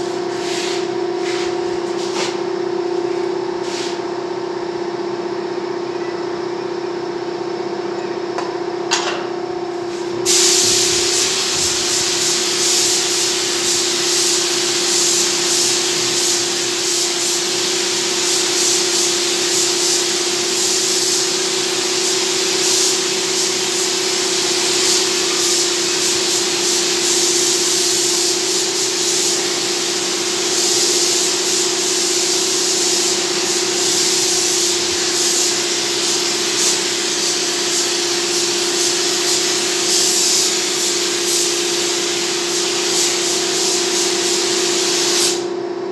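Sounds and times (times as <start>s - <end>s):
spray gun hissing: 0.0s - 2.4s, 9.9s - 45.5s.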